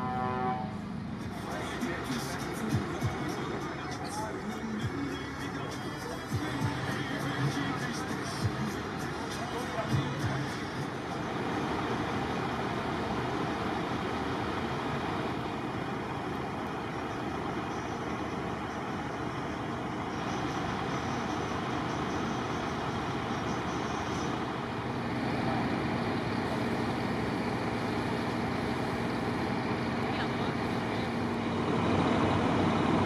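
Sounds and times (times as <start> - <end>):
low engine hum: 0.0 - 33.0
truck engines running: 0.0 - 33.0.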